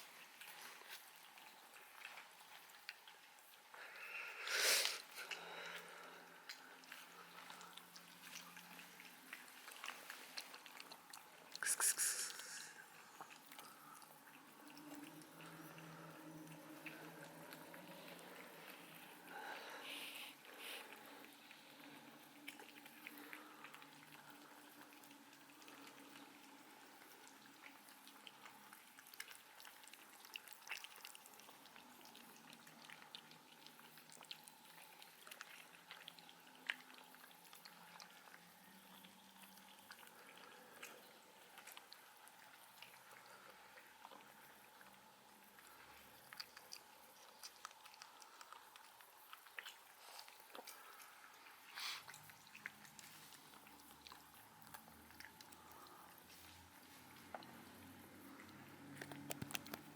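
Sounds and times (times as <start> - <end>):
cat chewing food: 0.0 - 59.9
faint steady hum: 0.0 - 59.9.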